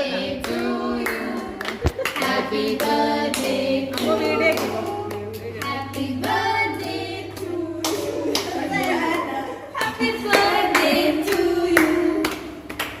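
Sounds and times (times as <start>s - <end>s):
group singing: 0.0s - 13.0s
people clapping: 0.0s - 13.0s.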